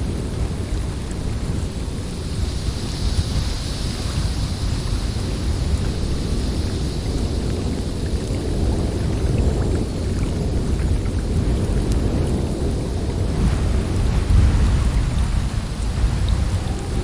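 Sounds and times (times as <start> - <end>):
snowstorm wind blowing: 0.0 - 17.0.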